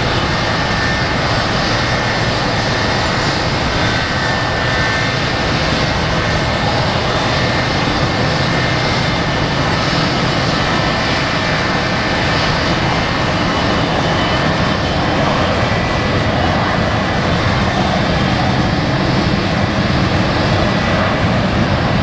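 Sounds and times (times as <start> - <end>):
jet engines roaring with whine: 0.0 - 22.0.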